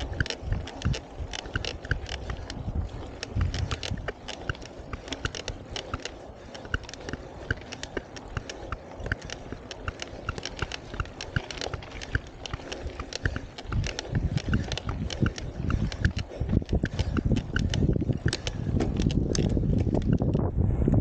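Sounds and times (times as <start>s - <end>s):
tyres crunching on gravel: 0.0s - 20.3s
bike rattling and clicking: 0.0s - 20.6s.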